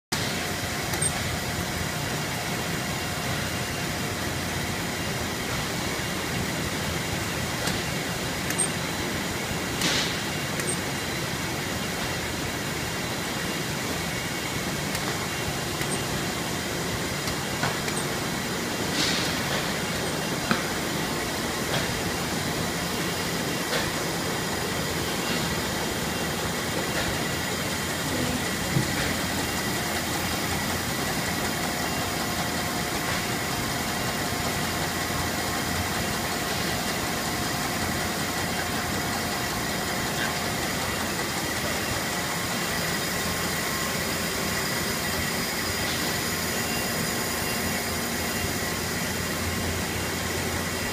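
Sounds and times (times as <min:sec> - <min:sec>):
conveyors rumbling: 0:00.1 - 0:50.9.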